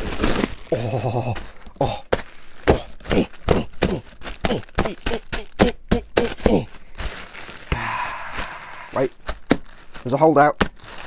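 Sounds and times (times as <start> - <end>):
plastic packing pillows bursting: 0.0 - 11.0.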